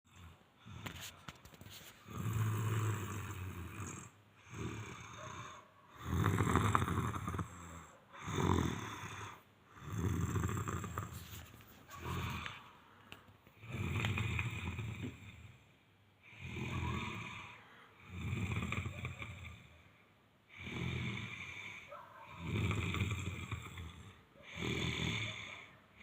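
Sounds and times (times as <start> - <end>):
man snoring: 0.1 - 1.0, 2.0 - 11.4, 12.0 - 12.7, 13.6 - 15.6, 16.2 - 19.8, 20.5 - 26.0
quiet breaths: 0.1 - 26.0.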